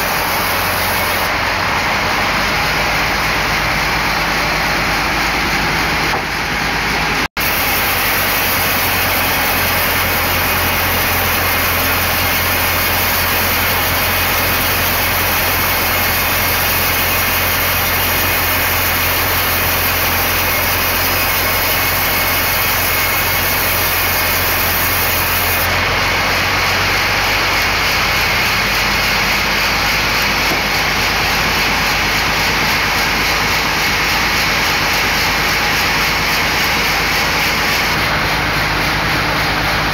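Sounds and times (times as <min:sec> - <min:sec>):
band saw cutting timber: 0:00.0 - 0:06.6, 0:07.4 - 0:39.9.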